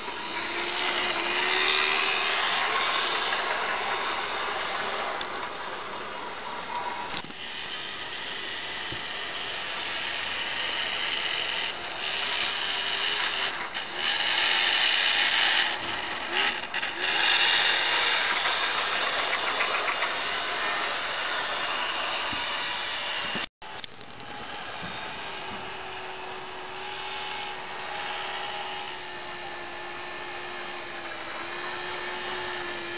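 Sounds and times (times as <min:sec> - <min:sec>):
model train motor whirring: 0:00.0 - 0:32.9
wheels running on rails: 0:00.0 - 0:32.9.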